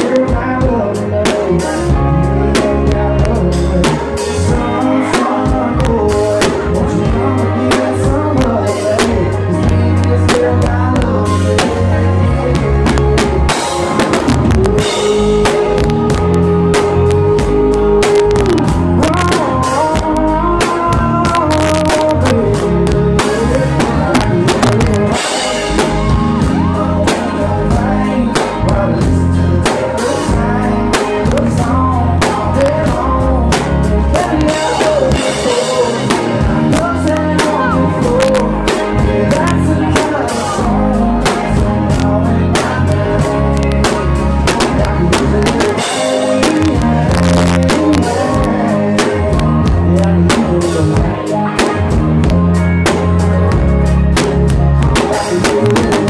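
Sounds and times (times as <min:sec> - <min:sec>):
country-rock band playing: 0:00.0 - 0:56.0
held sliding melody notes: 0:00.0 - 0:56.0.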